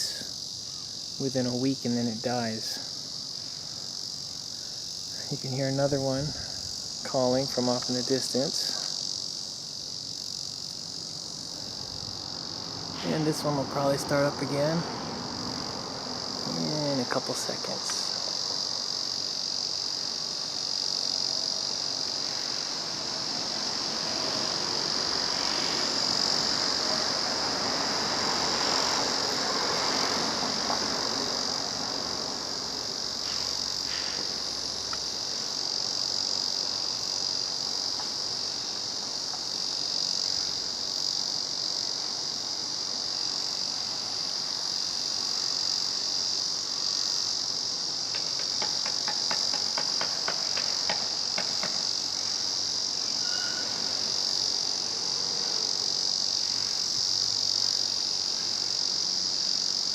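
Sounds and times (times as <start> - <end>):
cicada buzzing: 0.0 - 59.9.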